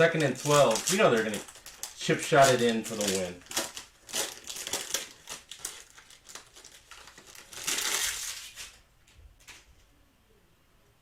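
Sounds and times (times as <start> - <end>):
wrapper crinkling: 0.0 - 8.8.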